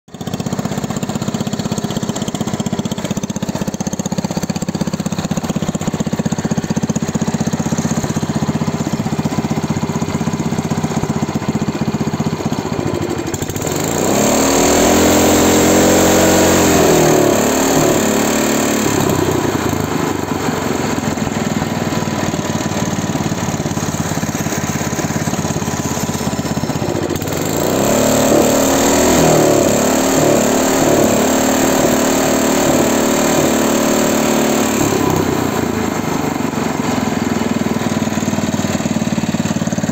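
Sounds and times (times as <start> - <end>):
snow blower engine running: 0.1 - 39.9.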